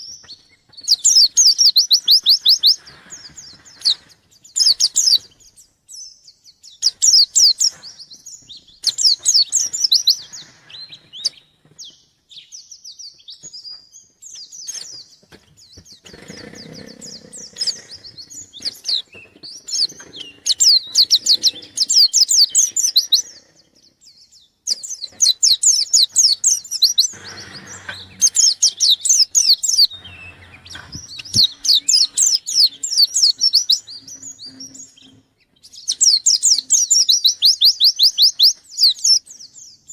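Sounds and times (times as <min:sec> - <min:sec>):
bird chirping rapidly: 0:00.0 - 0:05.7, 0:06.7 - 0:11.6, 0:15.9 - 0:39.9.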